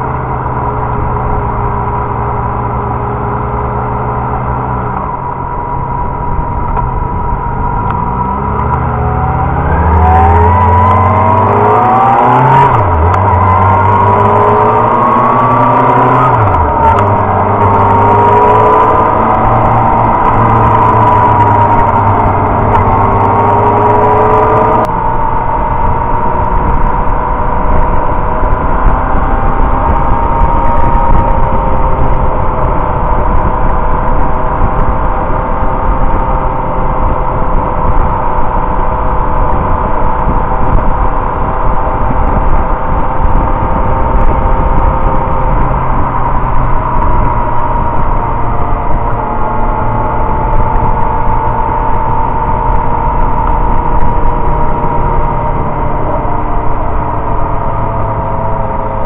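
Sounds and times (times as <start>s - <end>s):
motorcycle engine cruising: 0.0s - 59.0s
wind rush: 0.0s - 59.0s.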